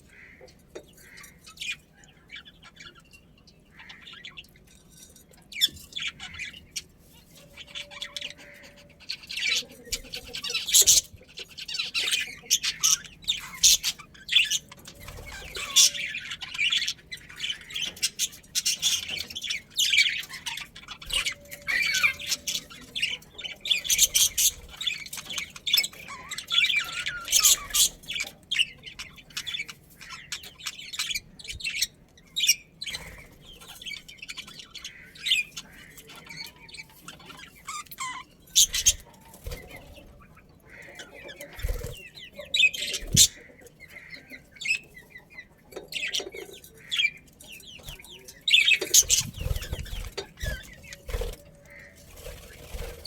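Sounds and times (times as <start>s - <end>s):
budgerigars chirping and squawking: 0.0s - 53.0s.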